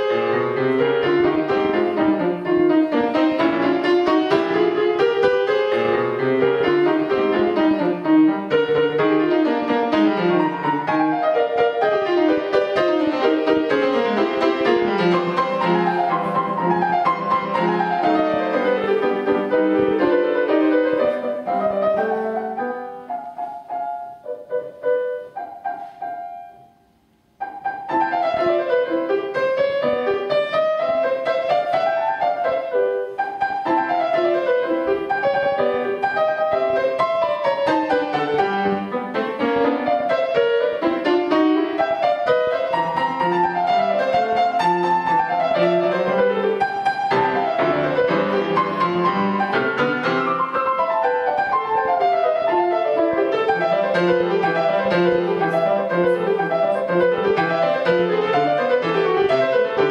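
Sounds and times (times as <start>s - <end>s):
grand piano playing: 0.0s - 59.9s.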